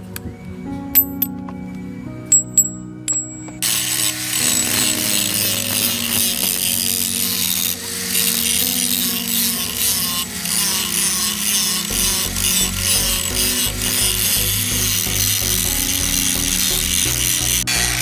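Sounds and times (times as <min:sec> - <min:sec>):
angle grinder grinding metal: 0:02.4 - 0:18.0.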